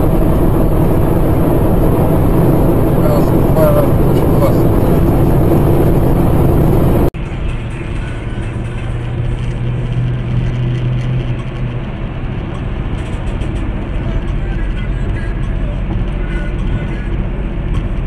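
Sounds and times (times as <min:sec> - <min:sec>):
low truck drone: 0:00.0 - 0:18.0
road and engine noise inside car: 0:00.0 - 0:18.0.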